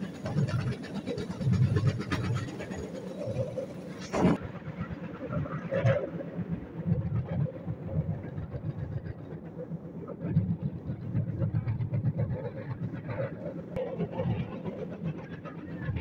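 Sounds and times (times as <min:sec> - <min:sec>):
rail cart rumbling and clacking: 0:00.0 - 0:16.0.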